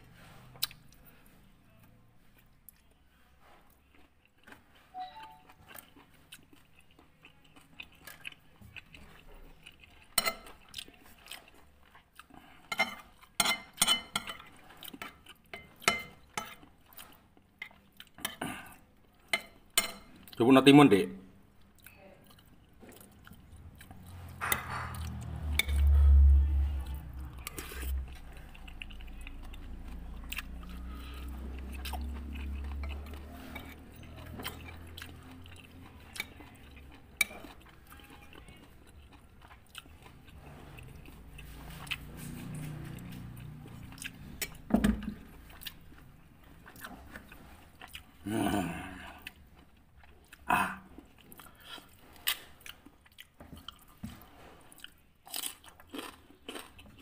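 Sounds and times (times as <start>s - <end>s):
chewing and swallowing: 0.0s - 1.4s, 2.2s - 20.4s, 21.5s - 57.0s.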